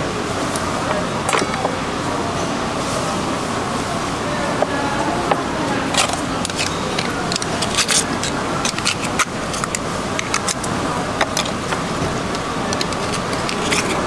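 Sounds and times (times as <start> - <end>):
market background din: 0.0 - 14.0.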